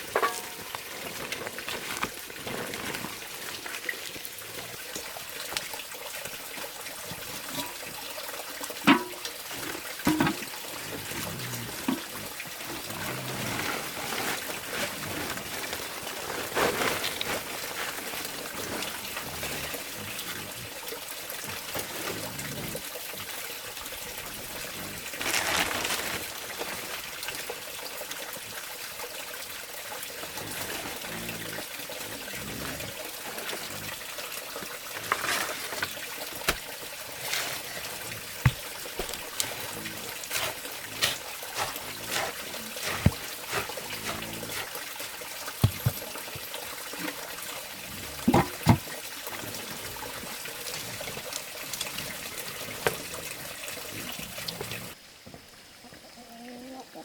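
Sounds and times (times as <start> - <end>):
water trickling: 0.0 - 55.2.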